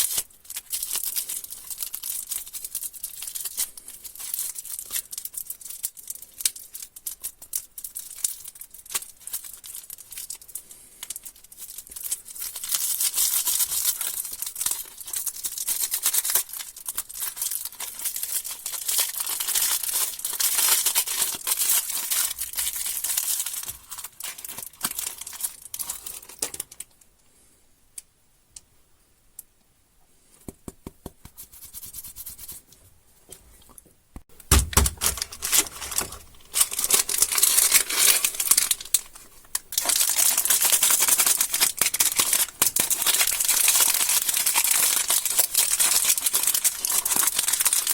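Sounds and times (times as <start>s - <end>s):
plastic wrappers crinkling: 0.0s - 27.0s, 34.3s - 47.9s.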